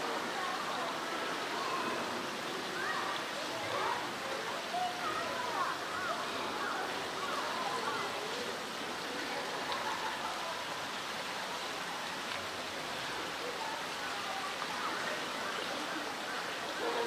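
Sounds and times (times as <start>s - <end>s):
faint voices: 0.0s - 17.0s
running water rushing: 0.0s - 17.0s.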